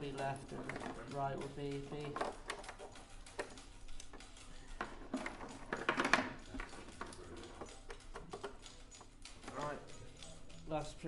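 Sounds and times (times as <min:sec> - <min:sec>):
equipment clicking and clattering: 0:00.0 - 0:10.8.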